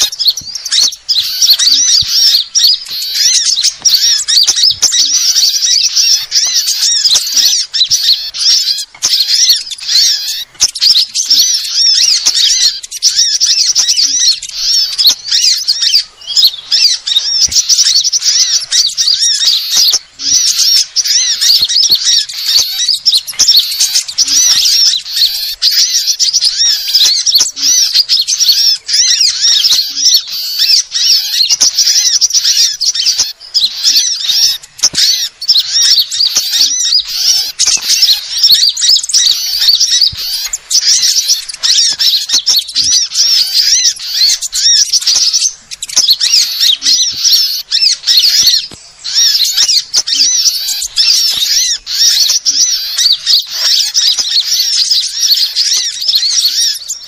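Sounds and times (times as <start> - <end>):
songbirds twittering: 0.0 - 57.0.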